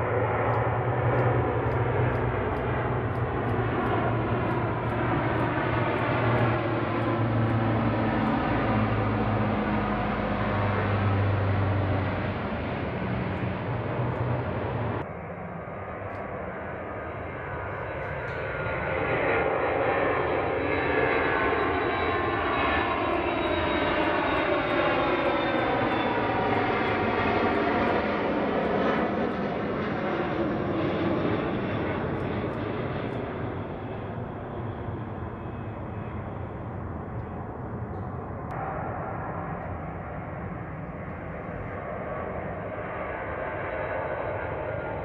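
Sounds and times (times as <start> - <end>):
jet engine whine: 0.0 - 45.0
jet engines at takeoff: 0.0 - 45.0
turboprop plane droning: 0.0 - 45.0.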